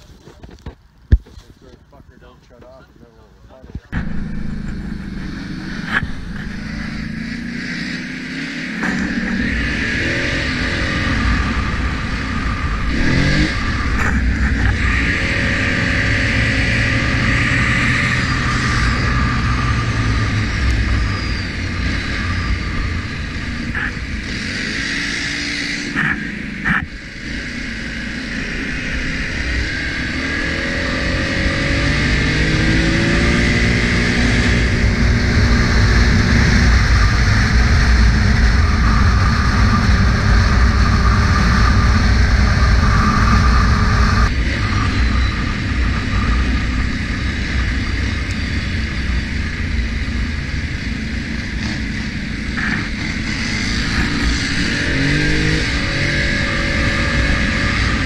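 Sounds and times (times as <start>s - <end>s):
atv engine running: 3.9s - 58.0s.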